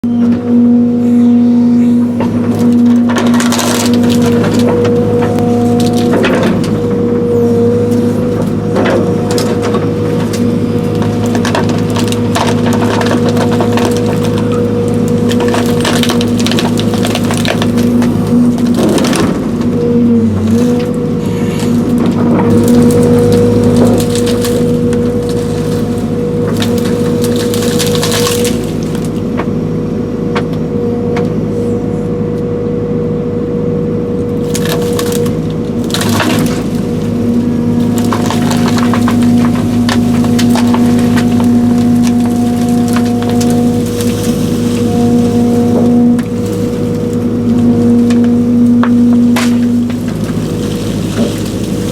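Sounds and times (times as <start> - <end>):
excavator diesel engine: 0.0 - 51.9
wood cracking and splintering: 2.0 - 31.5, 34.1 - 51.9.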